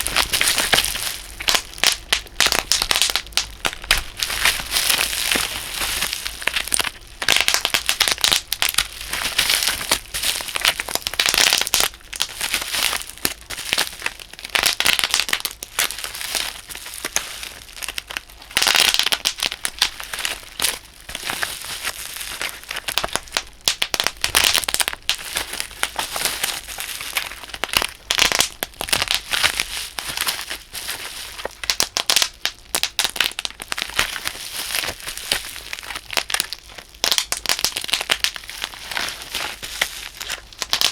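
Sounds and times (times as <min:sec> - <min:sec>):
bubble wrap popping: 0:00.0 - 0:40.9.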